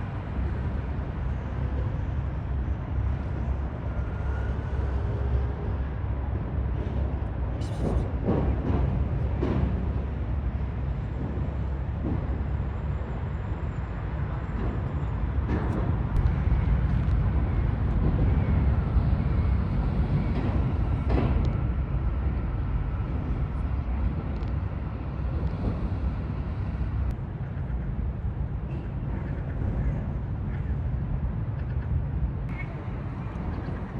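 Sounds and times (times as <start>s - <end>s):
low background rumble: 0.0s - 33.9s.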